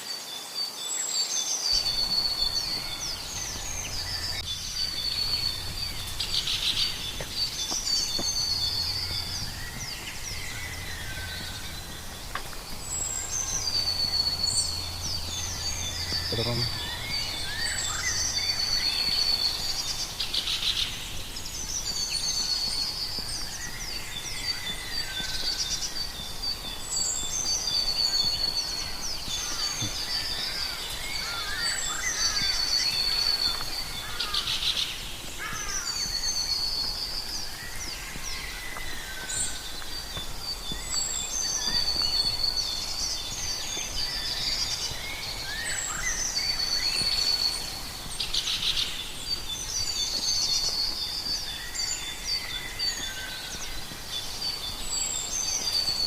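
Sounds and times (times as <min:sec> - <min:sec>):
birds singing and calling: 0:00.0 - 0:56.0
steady background hiss: 0:00.0 - 0:56.0.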